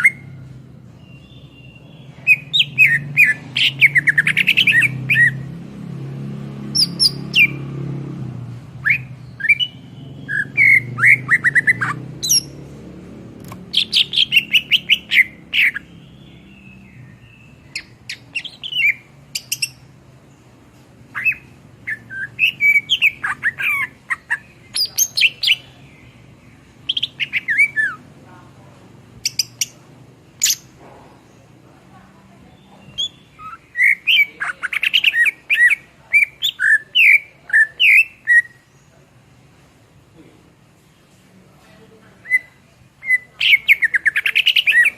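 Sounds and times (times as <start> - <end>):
bird song chirps and trills: 0.0 - 39.4, 42.1 - 44.9.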